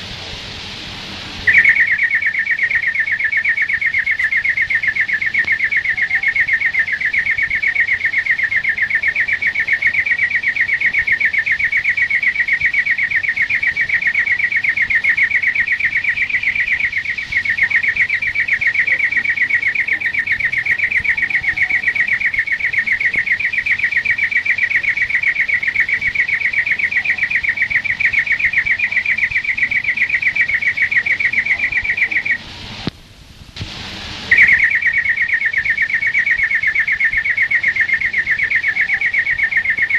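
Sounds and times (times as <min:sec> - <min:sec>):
bird trilling song: 0:01.5 - 0:32.4, 0:34.3 - 0:39.9.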